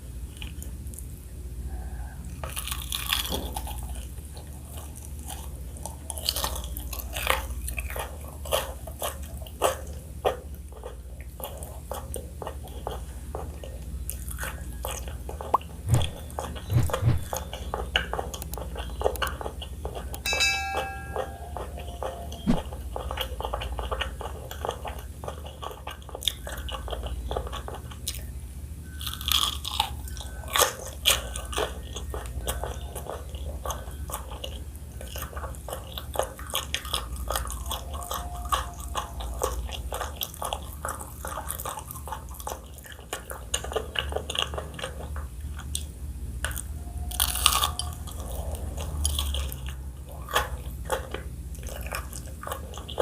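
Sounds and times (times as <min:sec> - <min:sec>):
chewing crunchy food: 0:00.0 - 0:01.3, 0:02.2 - 0:20.3, 0:21.4 - 0:53.0.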